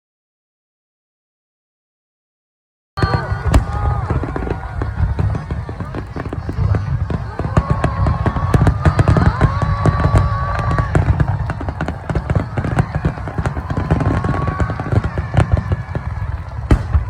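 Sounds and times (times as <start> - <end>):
fireworks bangs and crackling: 3.0 - 17.0.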